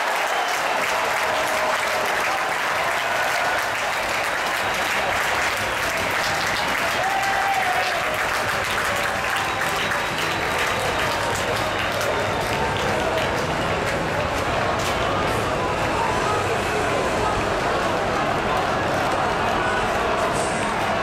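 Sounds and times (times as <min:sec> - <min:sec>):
crowd clapping: 0:00.0 - 0:21.0
crowd voices and shouts: 0:00.0 - 0:21.0.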